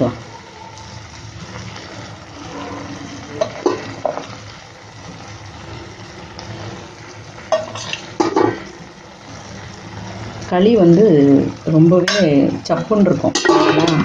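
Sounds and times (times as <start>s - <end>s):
vegetables sizzling in pot: 0.0s - 14.0s.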